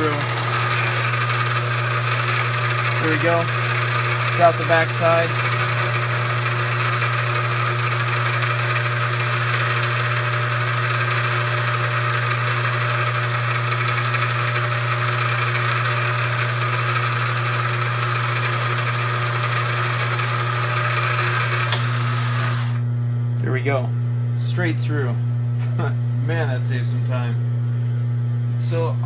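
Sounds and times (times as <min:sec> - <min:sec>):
milling machine spindle humming: 0:00.0 - 0:29.0.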